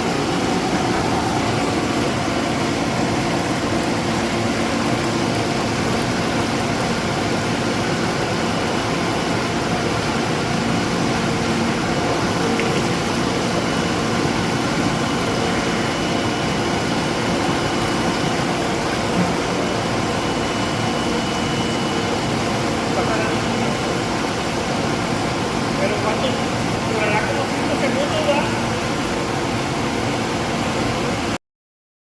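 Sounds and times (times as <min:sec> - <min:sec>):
vegetable washer machine humming: 0:00.0 - 0:31.4.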